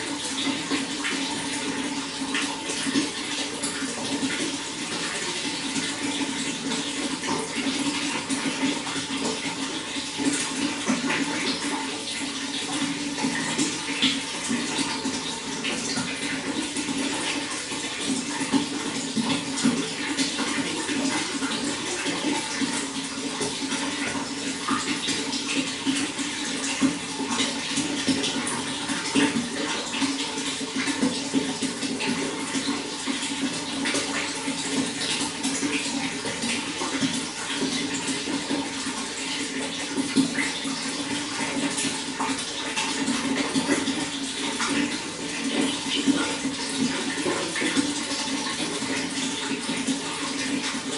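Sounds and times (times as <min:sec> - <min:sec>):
running water: 0:00.0 - 0:50.9.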